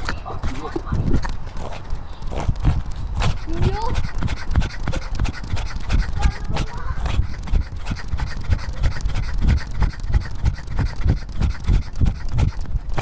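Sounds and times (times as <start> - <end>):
cat panting: 0.0 - 13.0.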